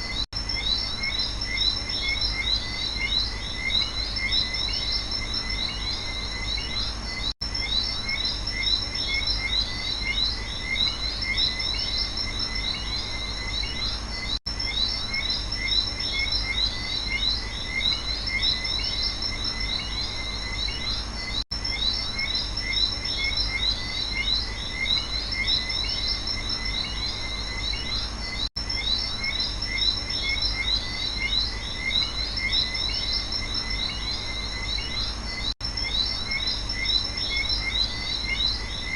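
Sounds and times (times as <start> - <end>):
frogs and insects chirping: 0.0 - 38.9.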